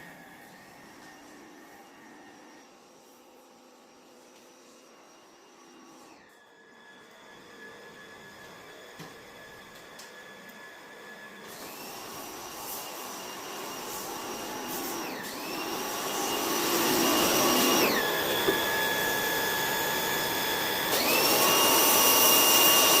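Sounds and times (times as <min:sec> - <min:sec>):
vacuum cleaner motor whining: 0:00.0 - 0:23.0.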